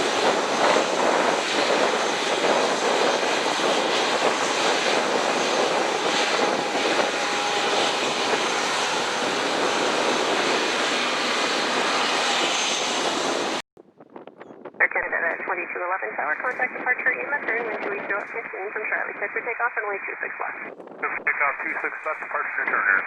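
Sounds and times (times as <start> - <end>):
jet engines running: 0.0 - 13.6, 14.2 - 23.0.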